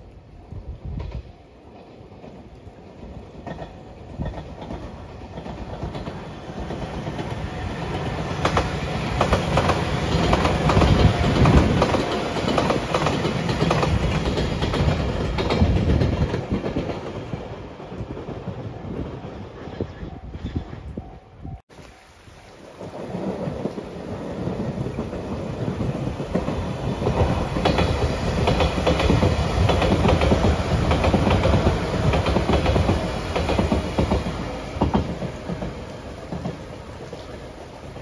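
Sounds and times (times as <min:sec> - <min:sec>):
train wheels clacking over rail joints: 0:03.3 - 0:20.8, 0:23.1 - 0:38.0.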